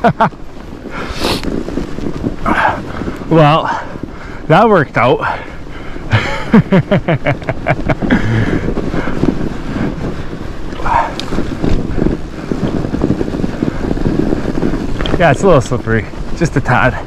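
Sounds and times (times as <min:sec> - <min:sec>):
bike rumbling on snow: 0:00.0 - 0:17.0
wind buffeting microphone: 0:00.0 - 0:17.0.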